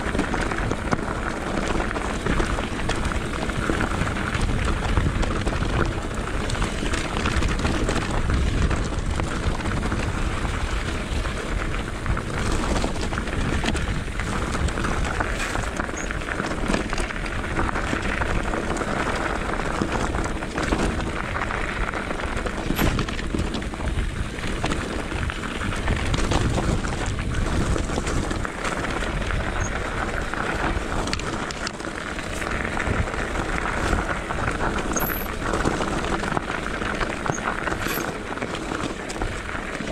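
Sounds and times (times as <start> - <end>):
bike rattling: 0.0 - 39.9
tyres crunching over gravel: 0.0 - 39.9
wind on microphone: 0.0 - 39.9.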